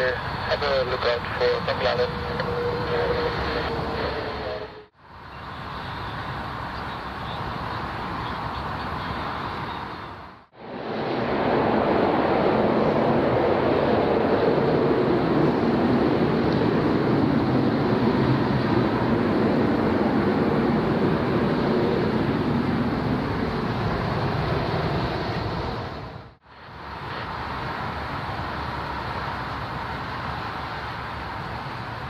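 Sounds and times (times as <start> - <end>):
jet engines rushing: 0.0 - 32.0
propeller plane taking off: 0.0 - 32.0.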